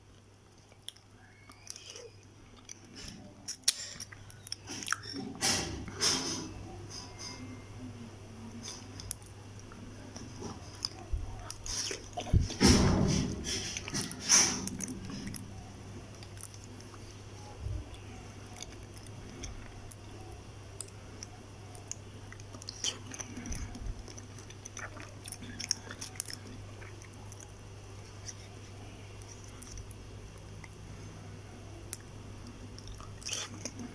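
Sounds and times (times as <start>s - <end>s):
steady low hum: 0.0s - 33.9s
person chewing: 0.2s - 6.0s, 8.6s - 17.2s, 17.8s - 31.0s, 31.8s - 33.9s.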